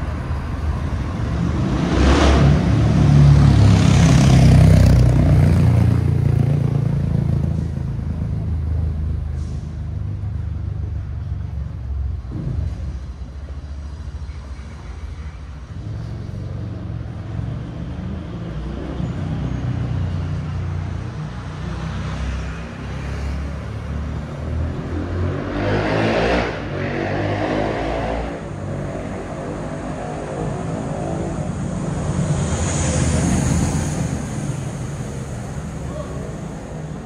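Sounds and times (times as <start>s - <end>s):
vehicle engine passing close: 0.0s - 10.3s, 15.7s - 37.0s
road traffic rumble: 0.0s - 37.0s.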